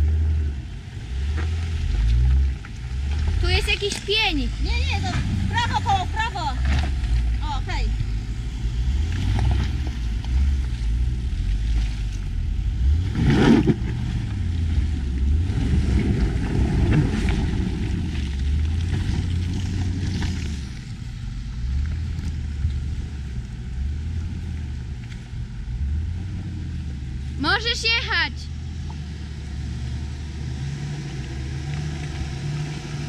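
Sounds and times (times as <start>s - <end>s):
off-road vehicle engine: 0.0s - 33.0s.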